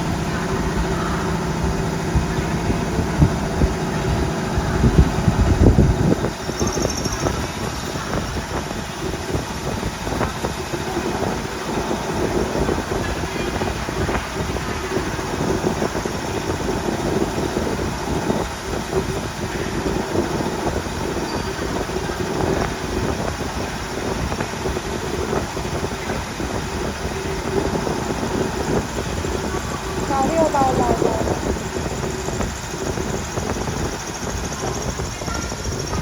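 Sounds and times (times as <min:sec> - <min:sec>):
milling machine humming: 0:00.0 - 0:36.0.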